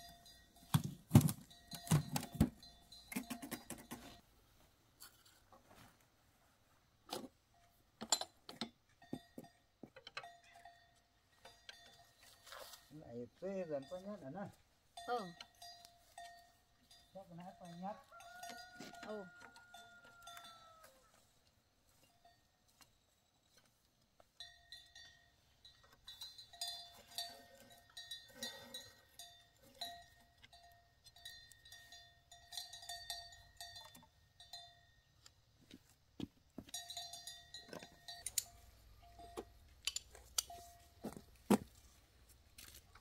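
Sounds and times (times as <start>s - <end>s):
livestock bell clanking: 0.0s - 4.2s, 7.6s - 21.2s, 21.8s - 23.6s, 24.2s - 35.2s, 36.6s - 41.4s.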